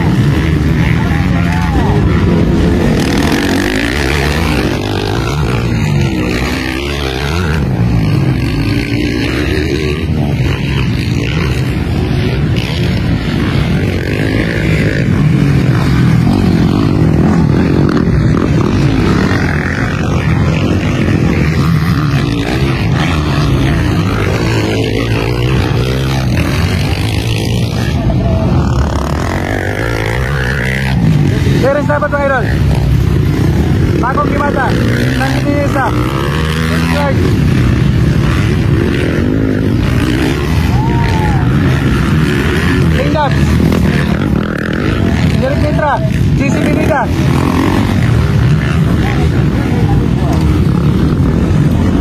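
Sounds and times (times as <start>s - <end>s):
dirt bike engines revving: 0.0s - 52.0s.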